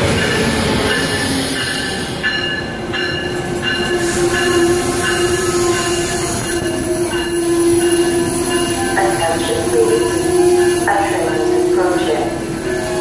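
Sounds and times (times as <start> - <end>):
train cars rolling past: 0.0 - 13.0.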